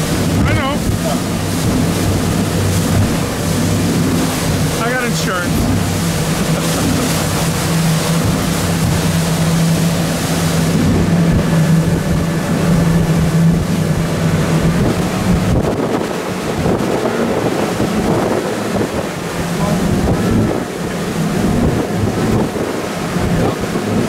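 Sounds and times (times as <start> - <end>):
outboard motors droning: 0.0 - 24.0
water rushing in wake: 0.0 - 24.0
wind on microphone: 0.0 - 24.0.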